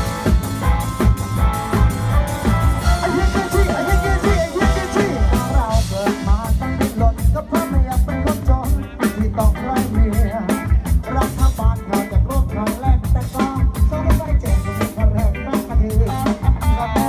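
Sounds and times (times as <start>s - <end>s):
band playing upbeat music: 0.0s - 17.0s.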